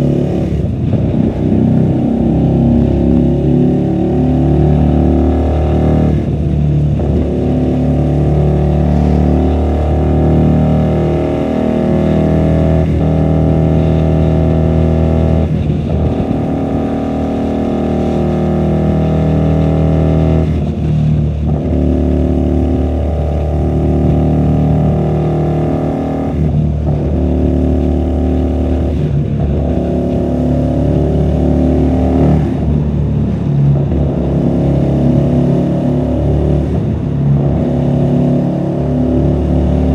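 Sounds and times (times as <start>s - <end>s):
muffled motorcycle engine revving: 0.0s - 39.9s.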